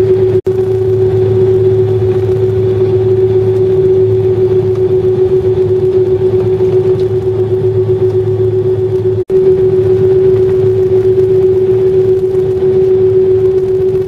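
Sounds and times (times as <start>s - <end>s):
jet engines humming in cabin: 0.0s - 14.0s
steady tone: 0.0s - 14.0s.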